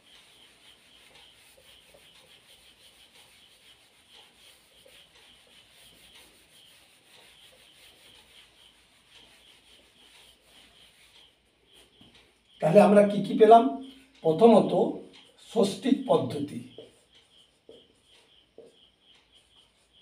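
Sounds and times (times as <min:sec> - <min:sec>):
cloth rubbing on whiteboard: 0:00.0 - 0:13.1, 0:13.8 - 0:18.8.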